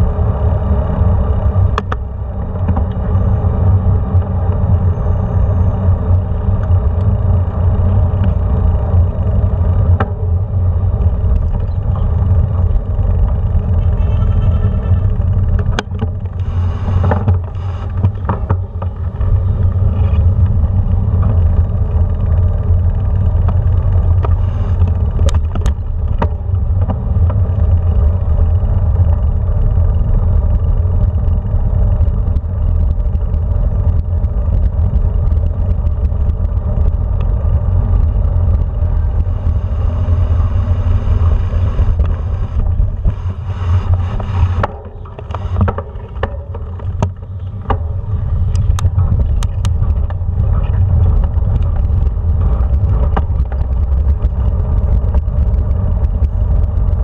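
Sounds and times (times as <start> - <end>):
bicycle tyres rolling on cobbles: 0.0 - 57.0
wind buffeting microphone: 6.1 - 57.0.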